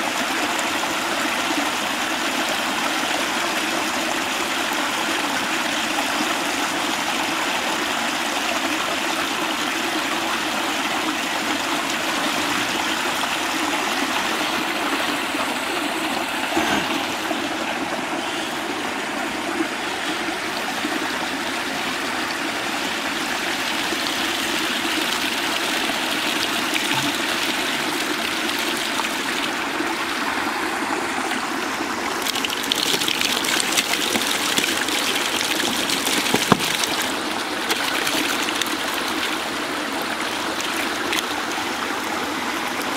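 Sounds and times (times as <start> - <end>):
water rushing through canal gap: 0.0 - 42.9.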